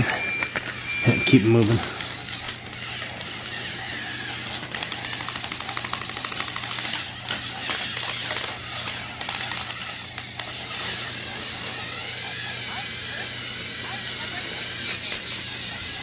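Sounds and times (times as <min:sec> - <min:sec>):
toy train motor whir: 0:00.0 - 0:16.0.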